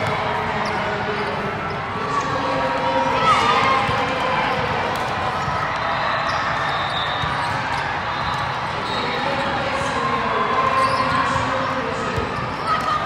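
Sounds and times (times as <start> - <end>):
background chatter: 0.0 - 13.0
volleyballs hit and bouncing: 2.2 - 13.0.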